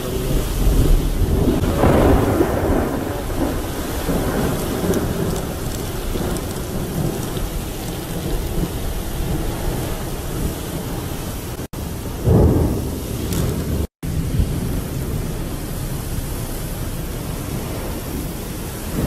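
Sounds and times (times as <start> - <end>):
deep rumbling wind: 0.0 - 19.0
wind-driven rain: 0.0 - 19.0.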